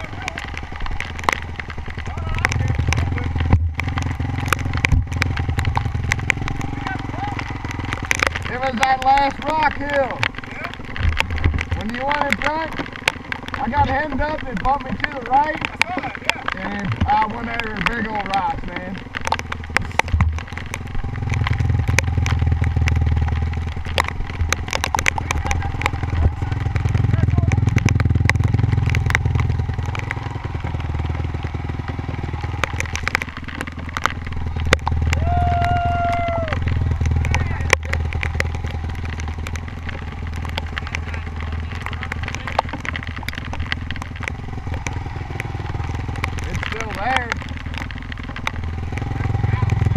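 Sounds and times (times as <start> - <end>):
dirt bike engine at low revs: 0.0 - 49.9
sharp clicks and clatter: 0.0 - 49.9.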